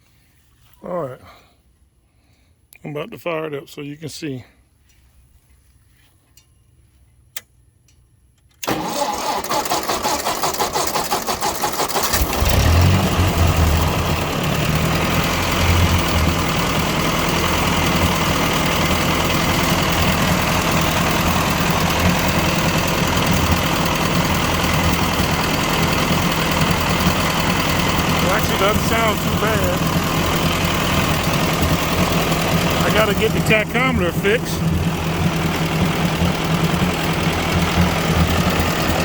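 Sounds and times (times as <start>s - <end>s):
tractor engine cranking and idling: 6.2s - 39.0s.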